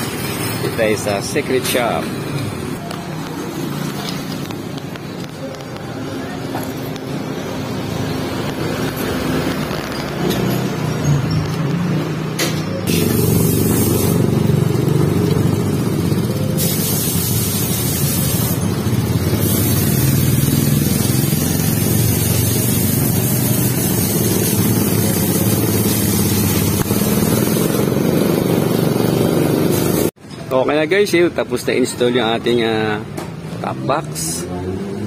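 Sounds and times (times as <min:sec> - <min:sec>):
traffic engines rumbling: 0:00.0 - 0:35.0.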